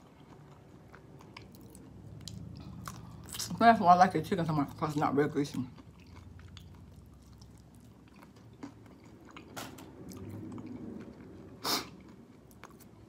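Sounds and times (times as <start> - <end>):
person chewing: 0.0 - 3.6, 4.5 - 13.0.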